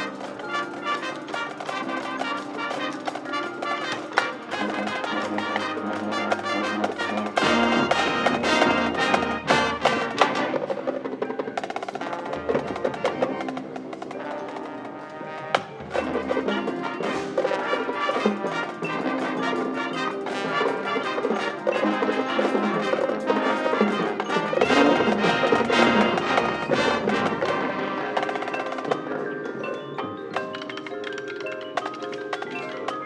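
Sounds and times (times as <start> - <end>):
brass ensemble playing: 0.0 - 11.2, 11.9 - 29.3
drumline percussion: 0.0 - 33.0
wood-block strokes: 0.0 - 33.0.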